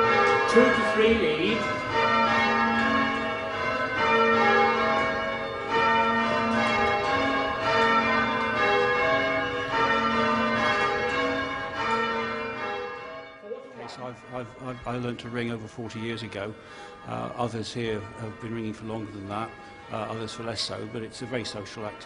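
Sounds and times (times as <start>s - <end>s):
church bells ringing in changes: 0.0s - 22.0s.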